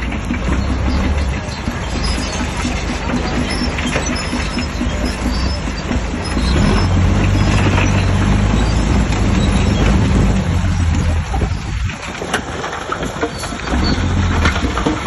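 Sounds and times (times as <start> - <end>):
bulldozer diesel engine drone: 0.0 - 15.0.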